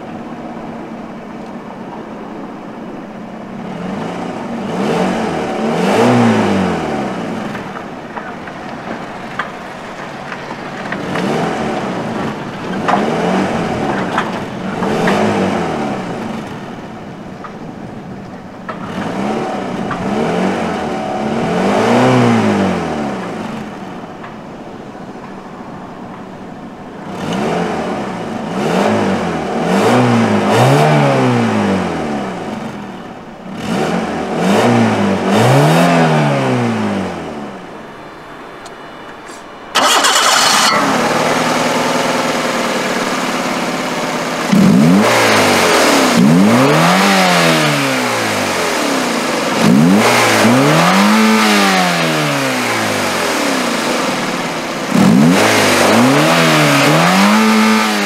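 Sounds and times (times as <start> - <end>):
car engine revving blips: 0.0 - 58.0.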